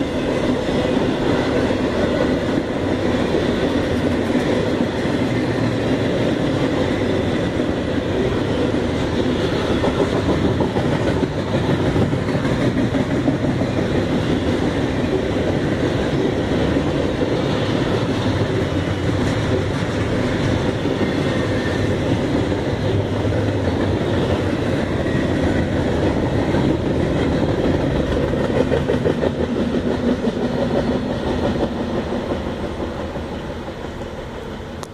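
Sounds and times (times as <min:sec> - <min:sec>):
freight train rolling past: 0:00.0 - 0:34.9.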